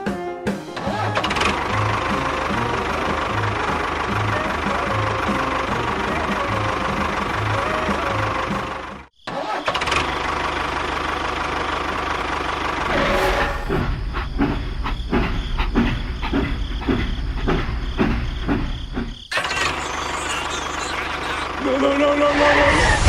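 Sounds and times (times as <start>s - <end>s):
engine chugging: 0.8s - 9.1s, 10.0s - 22.3s.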